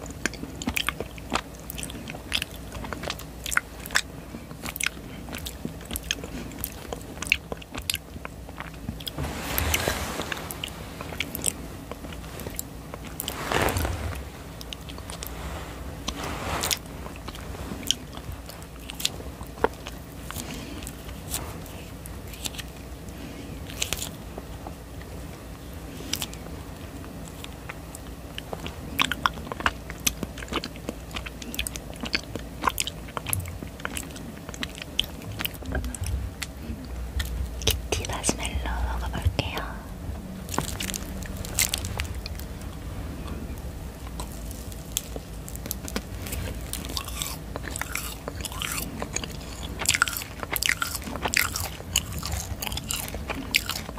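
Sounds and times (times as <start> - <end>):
close-miked chewing: 0.0 - 9.2, 10.2 - 53.9.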